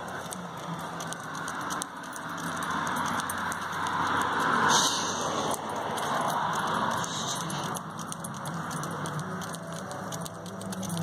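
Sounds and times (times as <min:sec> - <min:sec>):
light metallic jingling: 0:00.0 - 0:11.0.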